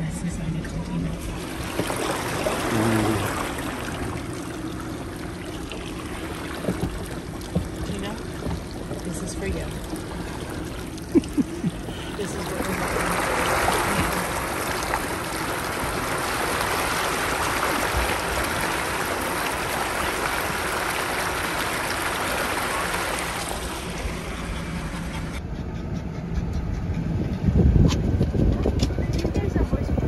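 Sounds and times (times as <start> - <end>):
flood water rushing and splashing: 1.1 - 25.4.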